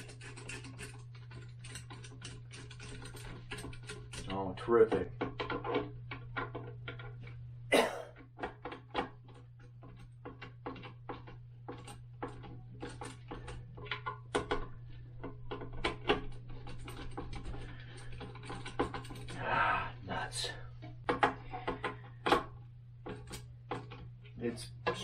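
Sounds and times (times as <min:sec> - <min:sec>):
steady low hum: 0:00.0 - 0:08.4, 0:09.1 - 0:25.0.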